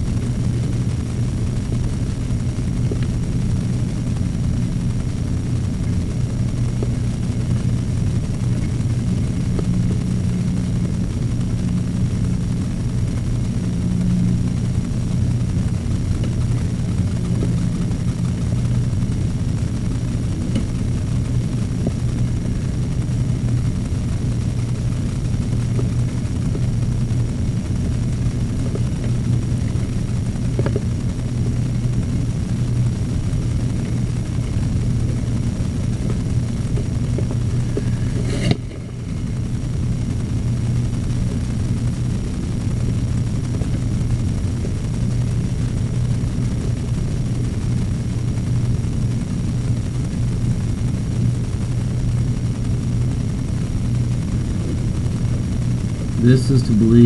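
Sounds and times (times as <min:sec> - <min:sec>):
steady low drone: 0:00.0 - 0:57.0.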